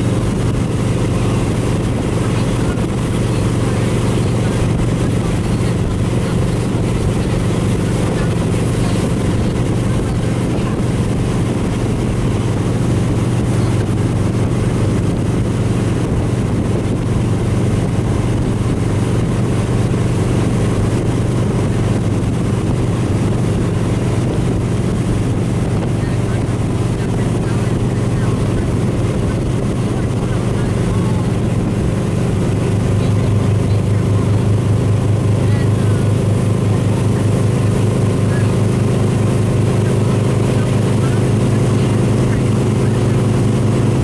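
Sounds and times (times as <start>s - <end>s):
motorboat engine drone: 0.0s - 44.0s
rush of wake water: 0.0s - 44.0s
wind: 0.0s - 44.0s.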